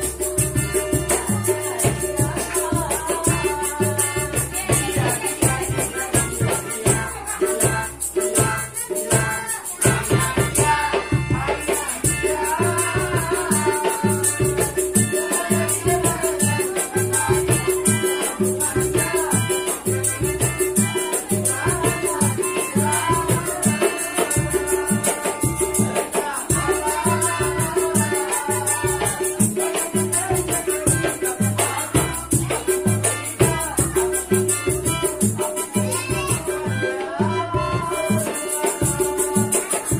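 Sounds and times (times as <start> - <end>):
shaker: 0.0 - 36.7, 38.0 - 39.9
hand drum beats: 0.0 - 39.9
melodica melody: 0.0 - 39.9.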